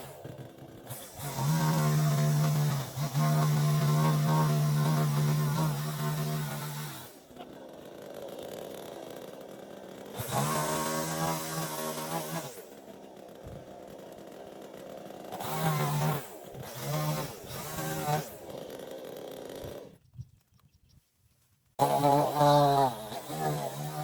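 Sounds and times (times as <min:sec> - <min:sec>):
chainsaw idling and revving: 0:00.0 - 0:20.0, 0:21.8 - 0:24.0.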